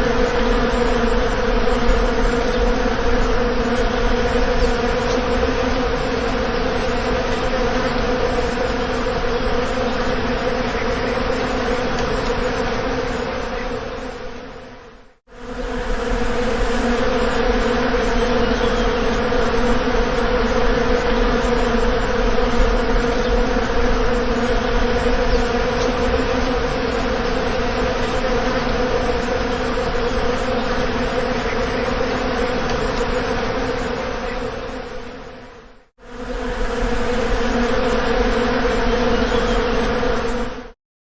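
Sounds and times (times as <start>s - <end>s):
bees buzzing: 0.0s - 40.7s.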